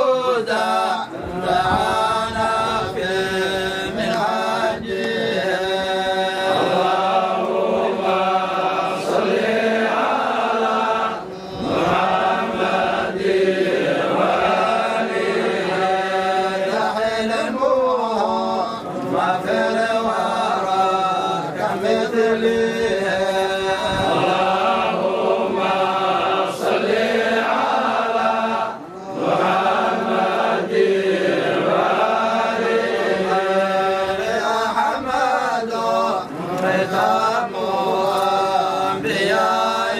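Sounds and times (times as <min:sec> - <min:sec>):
men chanting a devotional song: 0:00.0 - 0:39.9.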